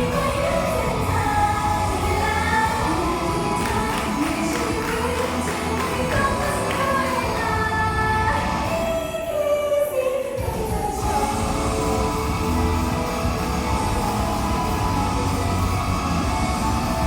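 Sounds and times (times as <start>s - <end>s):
pop song with singing: 0.0s - 17.0s.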